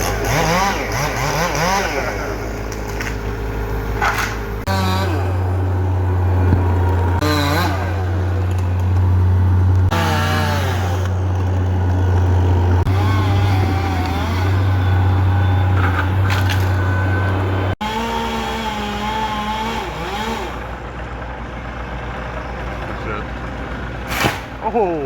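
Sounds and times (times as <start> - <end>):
engine humming steadily: 0.0 - 25.0.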